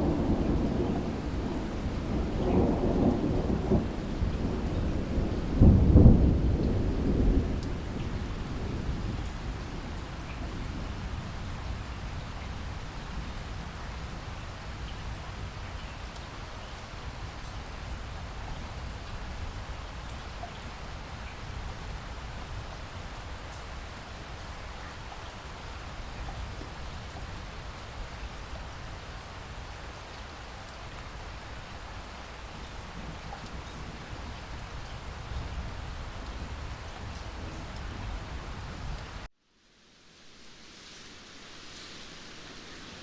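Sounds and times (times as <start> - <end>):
steady rainfall: 0.0 - 43.0.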